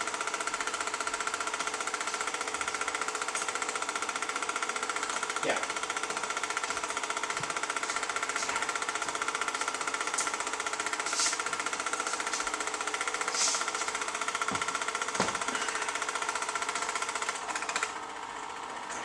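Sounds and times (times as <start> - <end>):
film projector clatter: 0.0 - 19.0
projector hum: 0.0 - 19.0.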